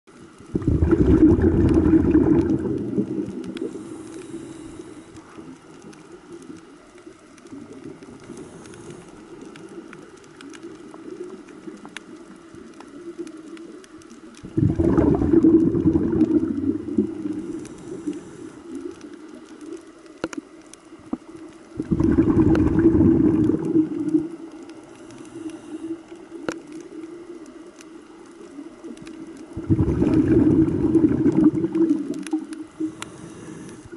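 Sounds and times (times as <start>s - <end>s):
faint clicks: 0.1s - 33.9s
underwater bubbles gurgling: 0.1s - 33.9s
water noise: 0.1s - 33.9s.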